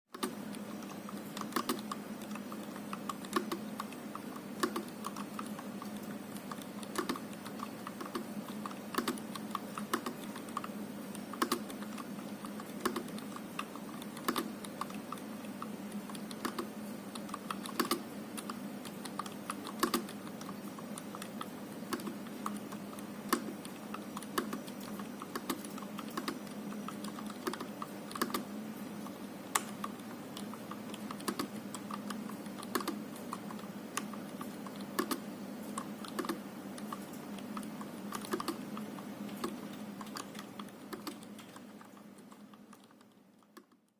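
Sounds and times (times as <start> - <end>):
mechanical keyboard typing: 0.1 - 43.9.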